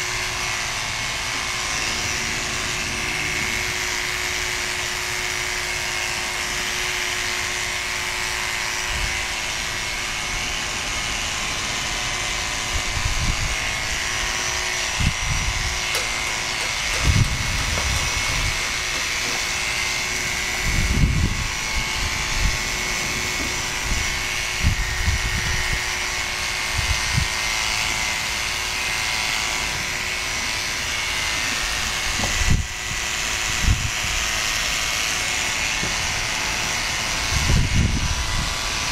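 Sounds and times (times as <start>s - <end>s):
electric clippers buzzing: 0.0s - 38.9s.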